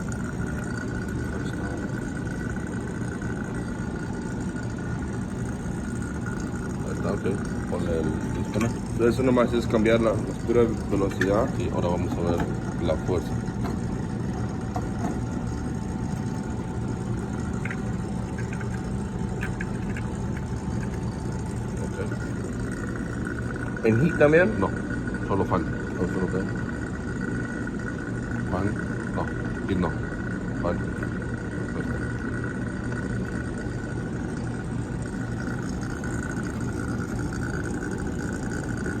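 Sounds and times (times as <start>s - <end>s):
hvac unit humming: 0.0s - 39.0s
thin steady whine: 0.0s - 39.0s.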